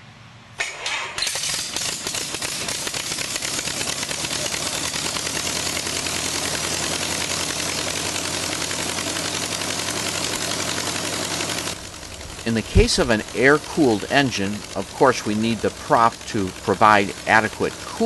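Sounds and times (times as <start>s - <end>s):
aircraft propeller engine running: 0.9s - 18.0s.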